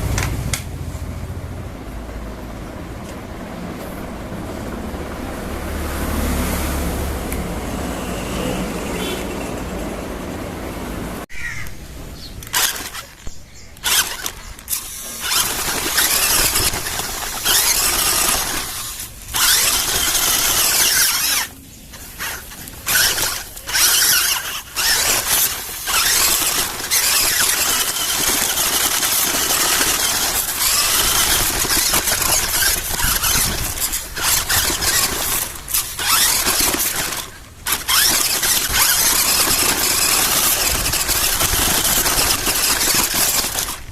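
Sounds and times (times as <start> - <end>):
electric motor and gears whining: 0.0 - 43.9.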